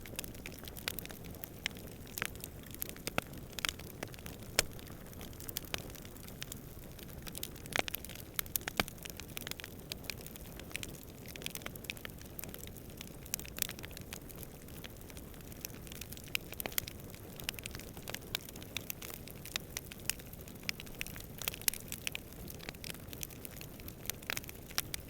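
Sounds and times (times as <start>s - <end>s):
campfire crackling and popping: 0.0s - 25.0s
low rumble of flame: 0.0s - 25.0s.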